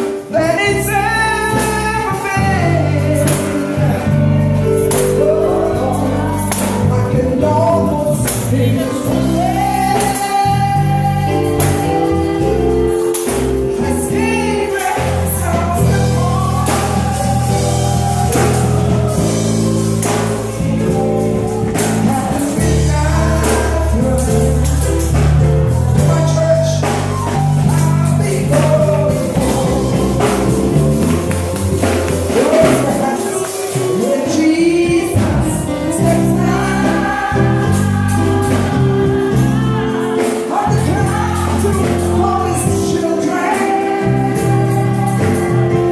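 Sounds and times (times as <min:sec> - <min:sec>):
congregation singing gospel: 0:00.0 - 0:45.9
sustained bass notes: 0:00.0 - 0:45.9.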